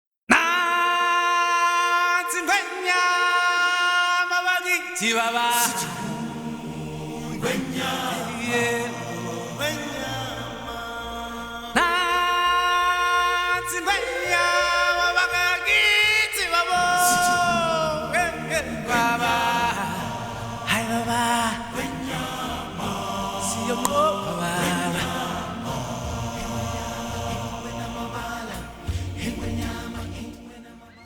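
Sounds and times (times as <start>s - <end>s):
chant-like singing: 0.3s - 31.0s.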